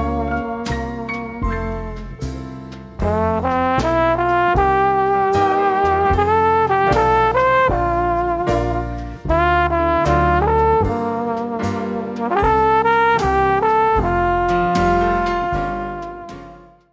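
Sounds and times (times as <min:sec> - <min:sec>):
brass music with strong bass: 0:00.0 - 0:16.9.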